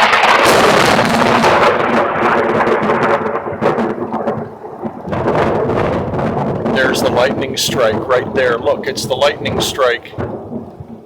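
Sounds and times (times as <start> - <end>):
crackling thunderclap rumbling: 0.0 - 11.0.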